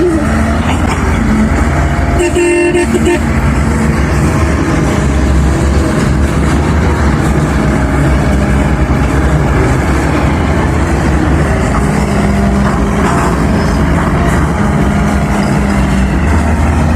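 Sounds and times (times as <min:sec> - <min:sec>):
excavator diesel engine running: 0:00.0 - 0:16.9.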